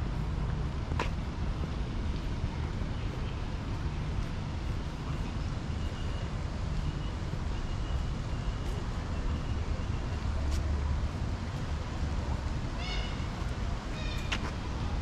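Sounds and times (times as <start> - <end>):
low city rumble: 0.0 - 15.0.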